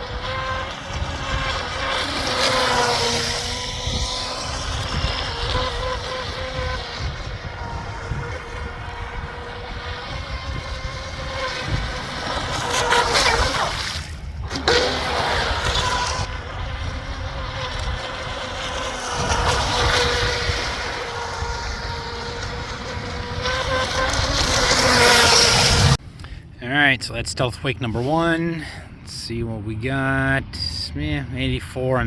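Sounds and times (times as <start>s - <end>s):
electric boat motor whining: 0.0s - 26.0s
wind rumble on microphone: 0.0s - 26.5s.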